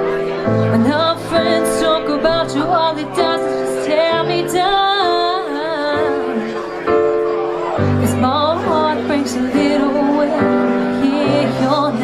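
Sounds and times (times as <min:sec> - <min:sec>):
woman singing: 0:00.6 - 0:06.7, 0:07.9 - 0:12.0.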